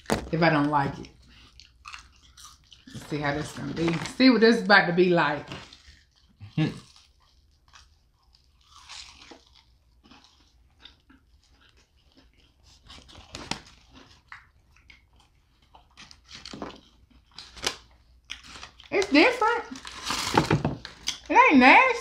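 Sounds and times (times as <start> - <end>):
crunchy chewing: 0.9 - 4.2, 5.4 - 21.3.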